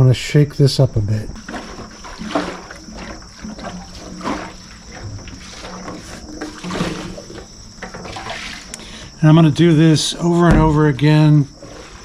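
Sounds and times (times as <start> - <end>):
liquid sloshing in metal tank: 1.4 - 12.0.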